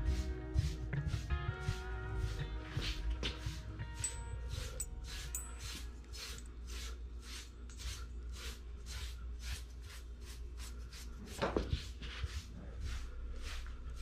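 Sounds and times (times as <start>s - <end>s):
stripping blade brushing dog coat: 0.0s - 14.0s.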